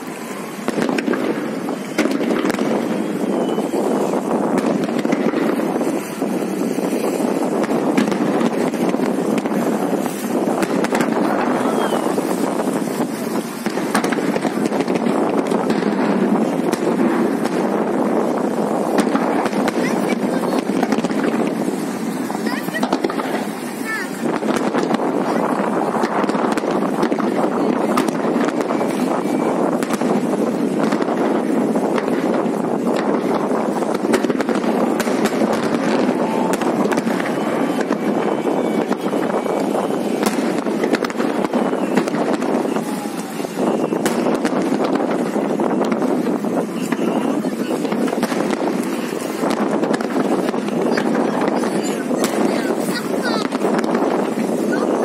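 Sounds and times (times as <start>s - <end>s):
fireworks bursts: 0.0s - 55.0s
fireworks crackles and pops: 0.0s - 55.0s
jet skis running: 0.0s - 55.0s
wind buffeting microphone: 0.0s - 55.0s.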